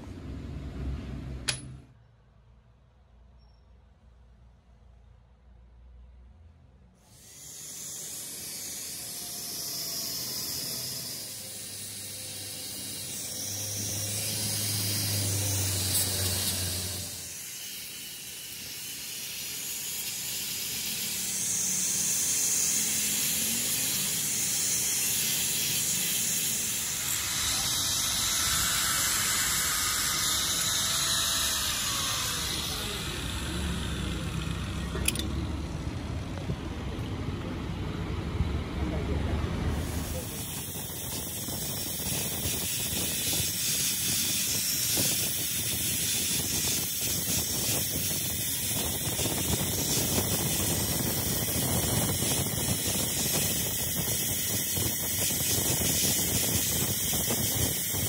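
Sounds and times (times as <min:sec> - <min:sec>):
angle grinder grinding metal: 0:07.0 - 0:36.2, 0:39.7 - 0:58.0.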